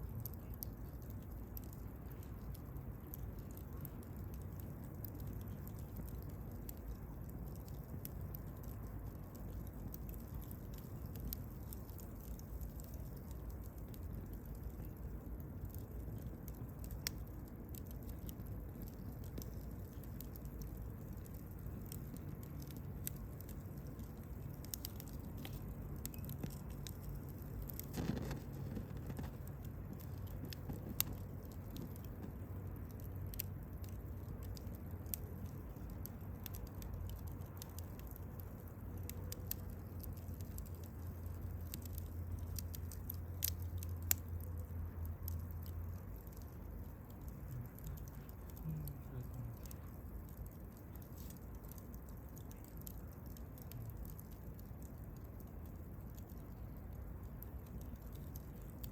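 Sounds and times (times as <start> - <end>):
campfire crackling and popping: 0.0 - 58.9
low rumble of flames: 0.0 - 58.9.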